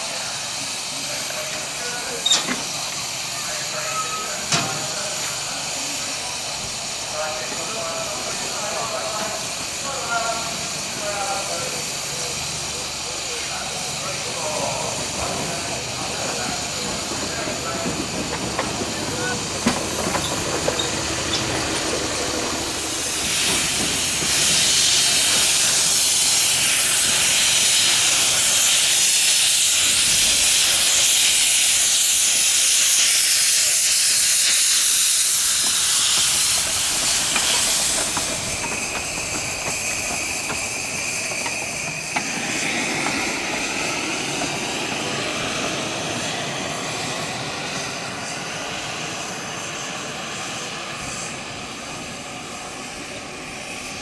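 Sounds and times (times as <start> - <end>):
steam locomotive venting steam: 0.0 - 54.0.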